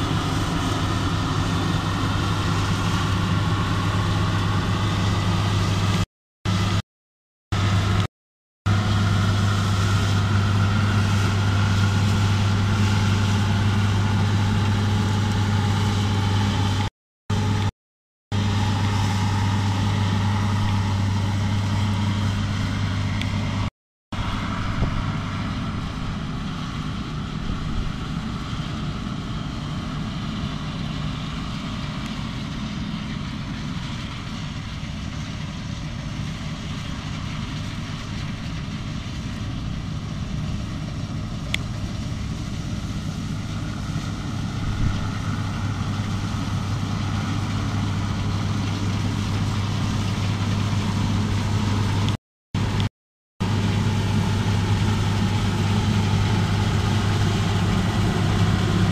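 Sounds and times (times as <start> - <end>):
combine harvester engine hum: 0.0 - 6.8, 7.5 - 8.1, 8.7 - 17.7, 18.3 - 58.9.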